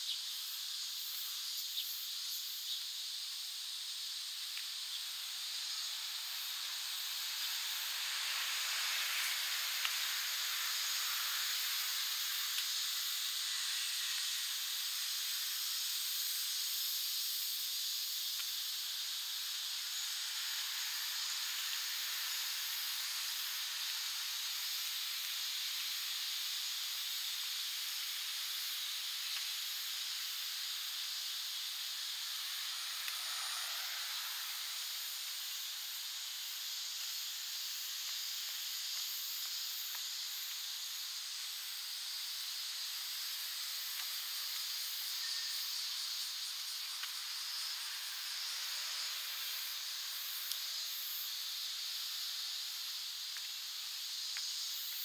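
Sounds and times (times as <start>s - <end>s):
cicada chorus: 0.0s - 55.0s.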